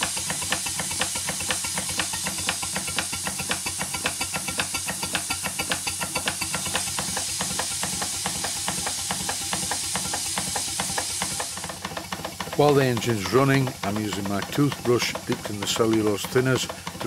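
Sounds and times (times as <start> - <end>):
rapid regular knocking: 0.0 - 17.0
steam hissing: 0.0 - 17.0.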